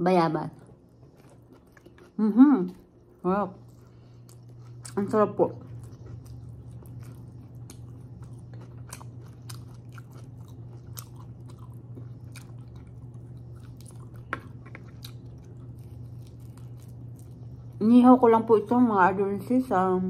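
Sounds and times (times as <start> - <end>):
steady low hum: 0.0 - 20.0
person chewing meat: 0.6 - 2.2, 2.8 - 17.8.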